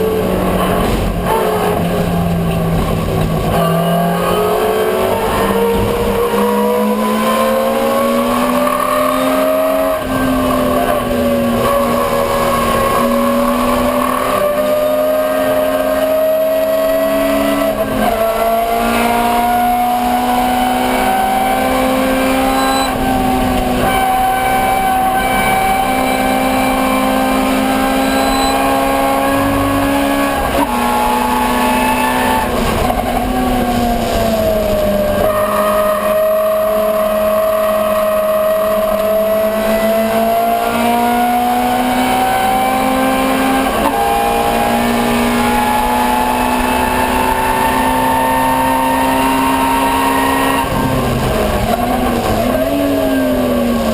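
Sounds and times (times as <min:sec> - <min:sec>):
race car engine revving hard: 0:00.0 - 0:53.9.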